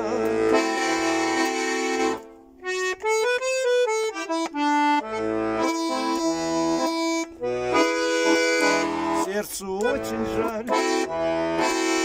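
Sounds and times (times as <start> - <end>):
button accordion playing: 0.0 - 12.0.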